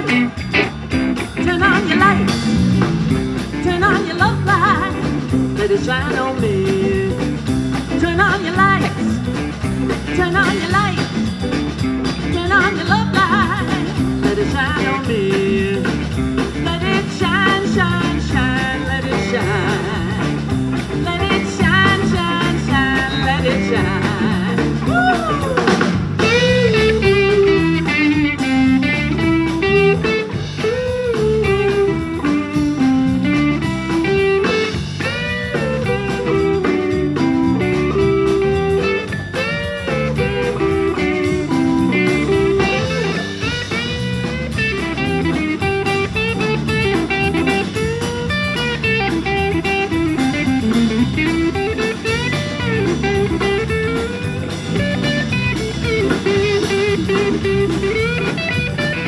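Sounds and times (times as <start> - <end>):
electric guitar solo: 0.0 - 11.6, 12.2 - 59.0
bass guitar: 0.0 - 59.0
drum kit: 0.0 - 59.0.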